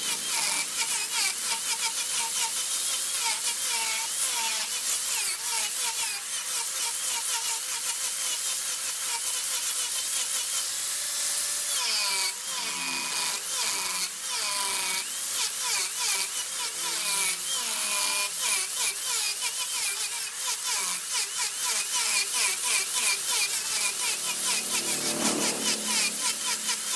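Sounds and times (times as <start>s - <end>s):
wood lathe cutting tool scraping: 0.0s - 26.9s.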